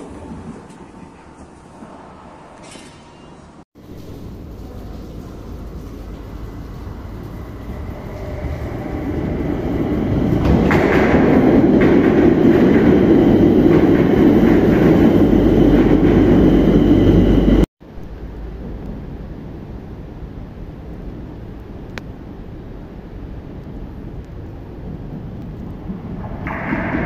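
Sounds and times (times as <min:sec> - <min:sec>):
metro train pulling in: 0:00.0 - 0:20.4, 0:24.8 - 0:27.0.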